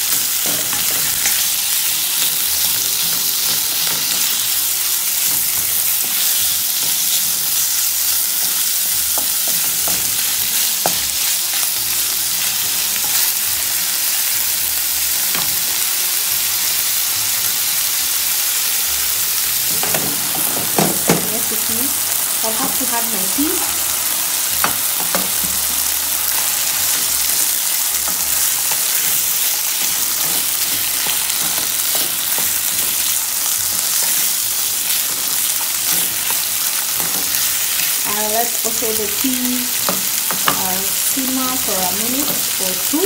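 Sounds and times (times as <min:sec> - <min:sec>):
chicken and onions sizzling: 0:00.0 - 0:43.0.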